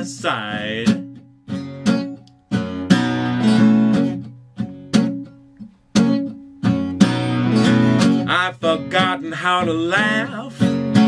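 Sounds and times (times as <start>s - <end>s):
acoustic guitar strummed in chords: 0.0s - 11.0s.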